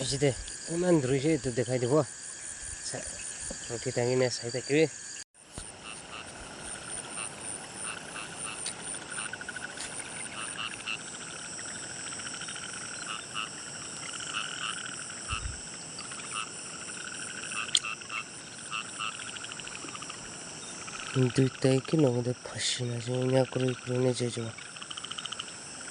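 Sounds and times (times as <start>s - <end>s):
frogs croaking in chorus: 0.0s - 25.9s
high-pitched insect drone: 0.0s - 25.9s.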